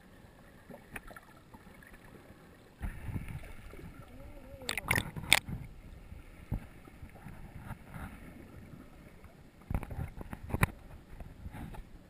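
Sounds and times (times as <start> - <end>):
sea water sloshing and splashing: 0.0 - 12.0.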